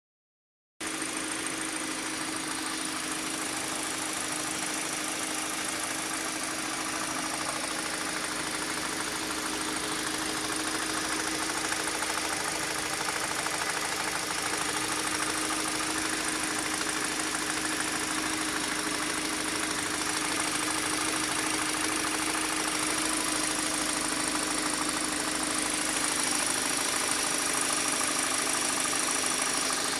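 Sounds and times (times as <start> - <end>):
car engine idling with tapping: 0.8 - 29.9.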